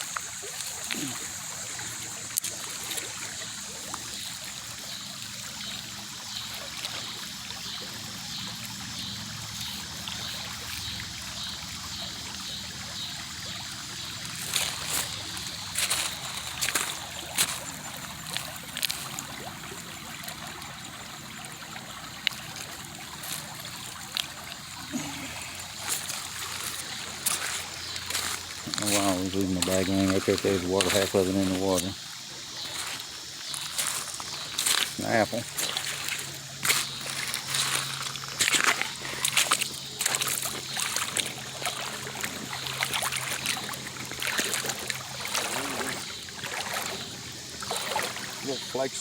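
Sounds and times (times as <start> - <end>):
creek water babbling: 0.0 - 49.0.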